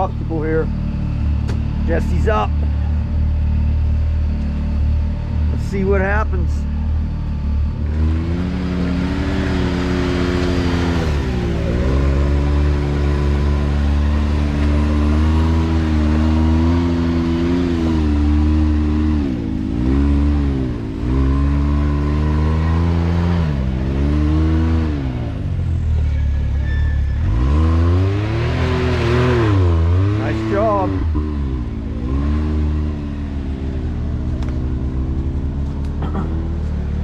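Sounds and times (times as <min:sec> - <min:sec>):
turbocharged engine revving: 0:00.0 - 0:25.8, 0:27.2 - 0:37.0.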